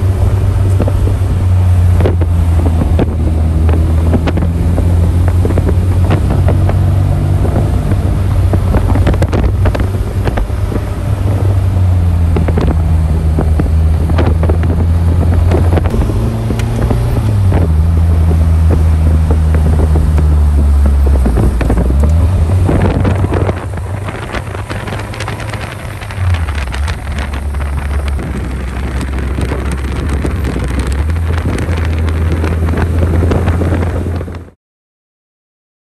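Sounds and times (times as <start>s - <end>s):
car engine running: 0.0s - 34.6s
wind noise on microphone: 0.0s - 34.6s.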